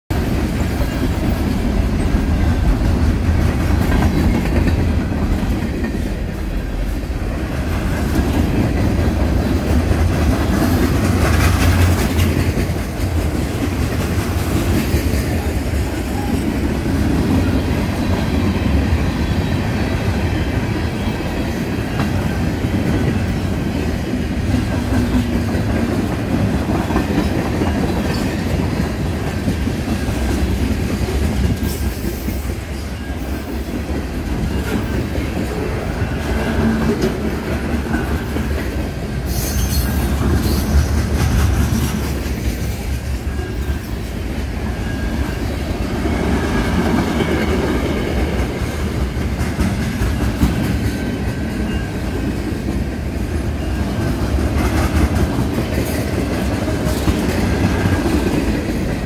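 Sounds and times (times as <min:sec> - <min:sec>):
freight train wheels rumbling: 0:00.1 - 0:59.0.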